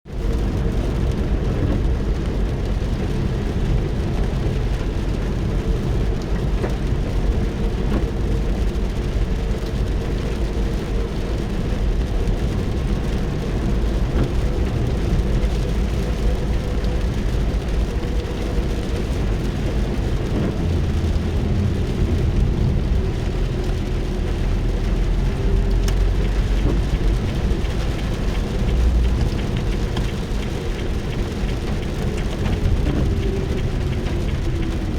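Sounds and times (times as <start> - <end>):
constant low rumble: 0.0 - 34.9
rain on car roof: 0.0 - 34.9.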